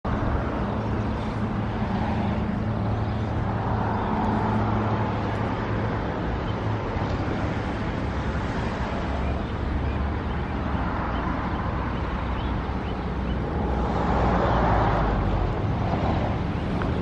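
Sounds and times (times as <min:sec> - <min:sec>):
outdoor noise: 0:00.0 - 0:17.0
low engine hum: 0:00.1 - 0:17.0.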